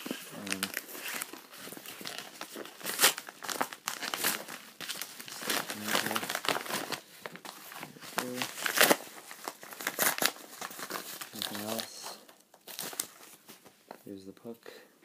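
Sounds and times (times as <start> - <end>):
packaging tearing: 0.0 - 13.5
packaging crinkling and rustling: 0.0 - 14.2.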